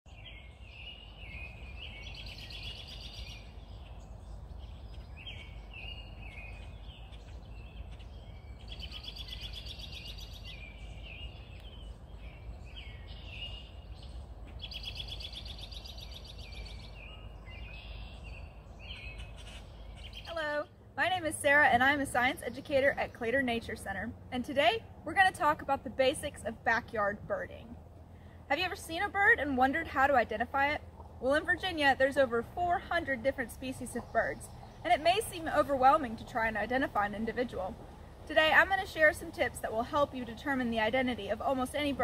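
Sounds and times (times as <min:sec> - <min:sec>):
songbirds singing trills: 0:00.1 - 0:42.0.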